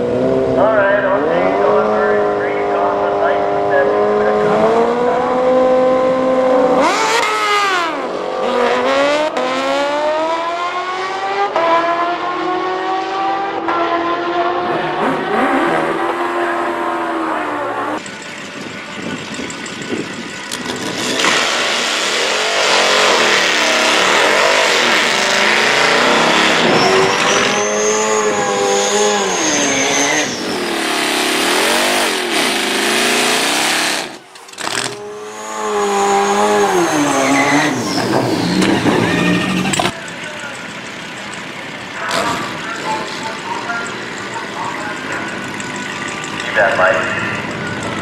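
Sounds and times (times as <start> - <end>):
racing engines at full throttle: 0.0 - 48.0.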